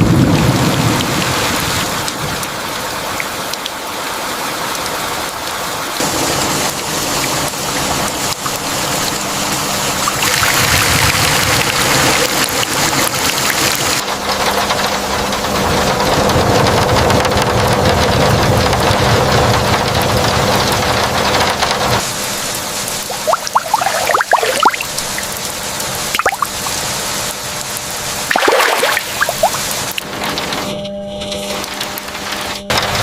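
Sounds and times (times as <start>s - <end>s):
steady rain falling: 0.0s - 24.0s, 24.9s - 28.4s.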